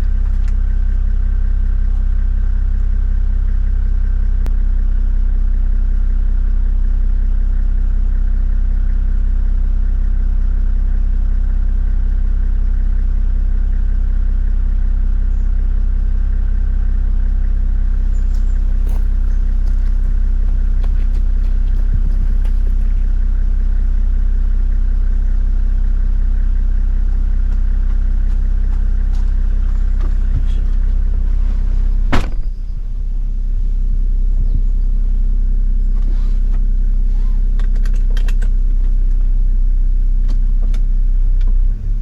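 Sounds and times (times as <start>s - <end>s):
diesel engine running steadily: 0.0s - 42.0s.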